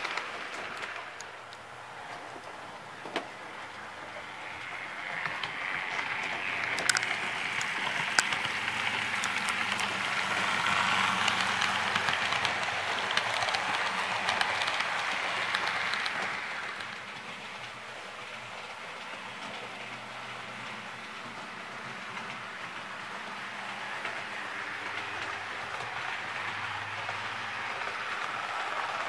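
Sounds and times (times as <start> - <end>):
model train wheels clicking on rails: 0.0 - 29.0.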